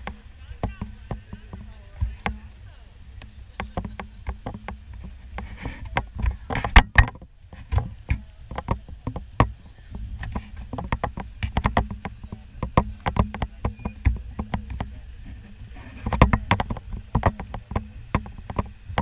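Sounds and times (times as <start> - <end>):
low engine rumble: 0.0 - 19.0
utility vehicle rattling over bumps: 0.0 - 19.0.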